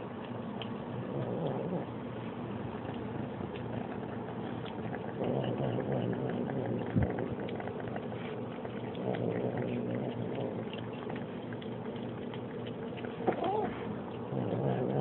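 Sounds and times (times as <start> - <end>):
chewing and lip-smacking clicks: 0.0 - 1.7, 2.6 - 15.0
kitten growling while eating: 0.0 - 15.0.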